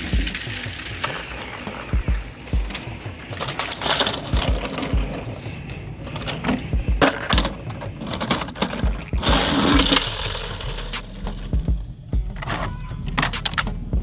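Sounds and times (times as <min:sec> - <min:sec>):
toy parts clicking and clattering: 0:00.0 - 0:11.5, 0:12.3 - 0:13.8
toy wheels scraping on wood: 0:00.0 - 0:11.6, 0:12.3 - 0:13.9.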